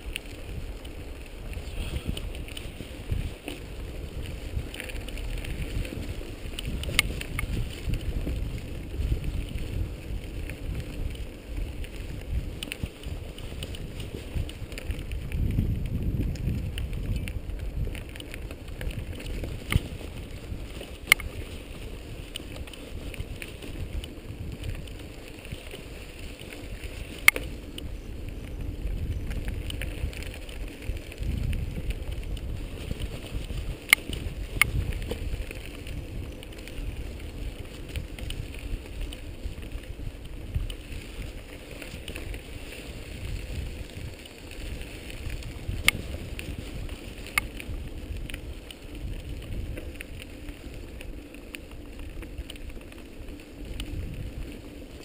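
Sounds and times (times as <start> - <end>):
bike clacking over bumps: 0.0 - 55.0
tyres and wind rumble: 0.0 - 55.0.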